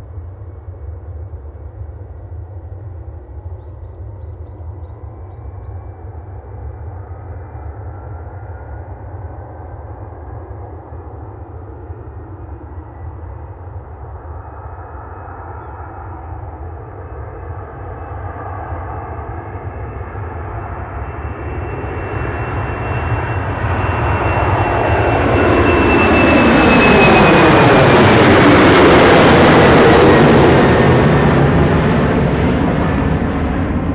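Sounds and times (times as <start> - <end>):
high engine whine: 0.0 - 33.9
jet airliner engines roaring: 0.0 - 33.9.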